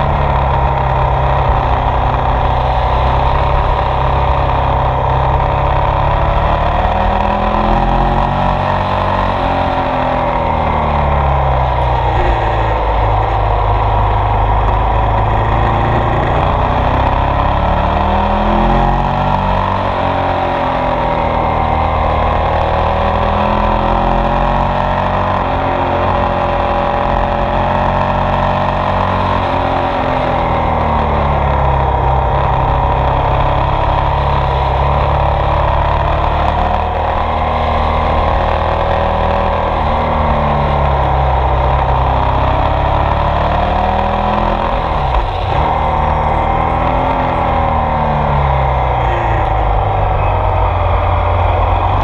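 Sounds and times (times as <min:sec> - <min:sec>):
motorcycle engine accelerating: 0:00.0 - 0:52.0
steady rush of noise: 0:00.0 - 0:52.0.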